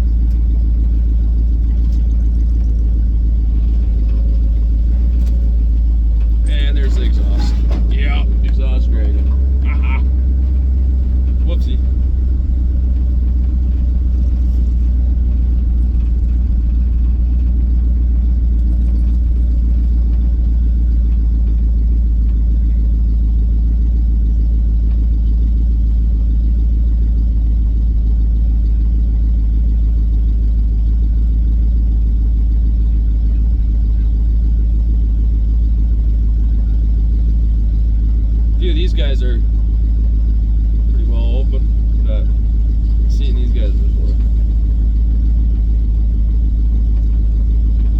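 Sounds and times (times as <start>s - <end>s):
car engine and exhaust droning: 0.0s - 47.9s.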